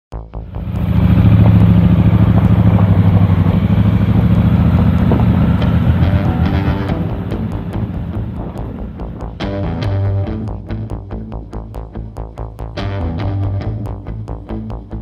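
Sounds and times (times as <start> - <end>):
motorcycle engine running: 0.4 - 14.8.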